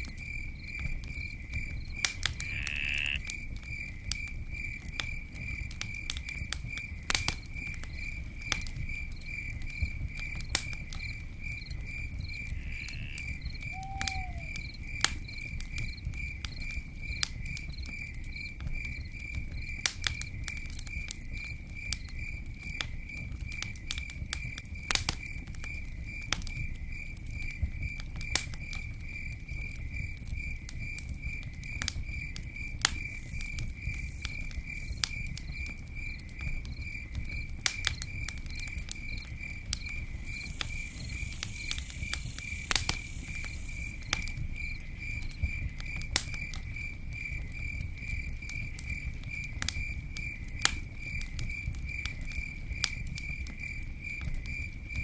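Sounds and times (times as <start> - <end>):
campfire crackling and popping: 0.0 - 55.0
cricket chirping: 0.0 - 55.0.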